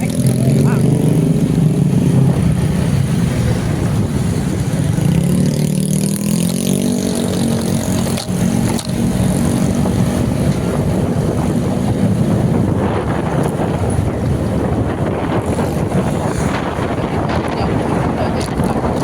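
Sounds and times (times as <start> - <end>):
vehicle engine running: 0.0 - 19.0
wind noise on microphone: 0.0 - 19.0.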